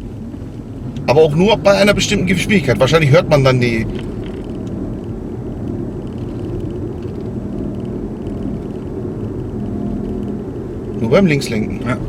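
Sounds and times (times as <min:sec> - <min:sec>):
road and tyre drone in car: 0:00.0 - 0:12.0
faint regular ticking: 0:00.3 - 0:12.0.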